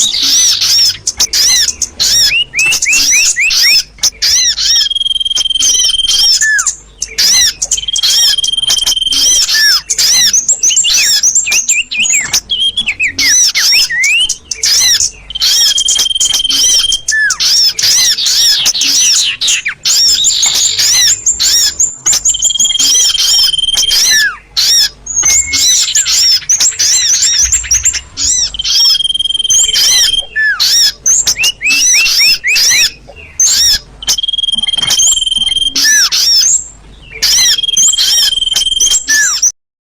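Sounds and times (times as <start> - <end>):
held bird whistle: 0.0 - 39.6
small birds chirping: 0.0 - 39.6.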